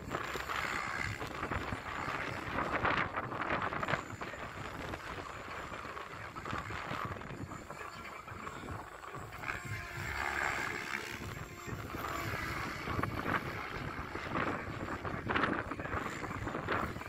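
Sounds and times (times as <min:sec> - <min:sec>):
helicopter rotor and motor whine: 0:00.0 - 0:17.0
wind rumbling on microphone: 0:00.0 - 0:17.0.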